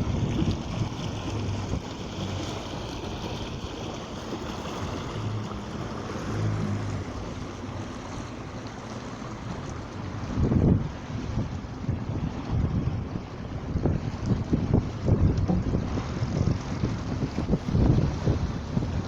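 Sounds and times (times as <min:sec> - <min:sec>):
wind noise on microphone: 0:00.0 - 0:08.2, 0:09.5 - 0:19.0
water rushing past hull: 0:00.0 - 0:19.0.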